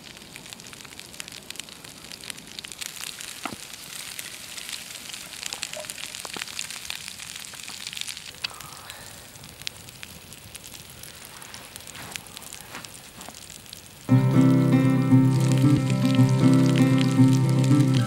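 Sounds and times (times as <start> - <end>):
mushrooms sizzling in a frying pan: 0.0 - 8.6, 9.4 - 18.0
campfire crackling: 0.0 - 18.0.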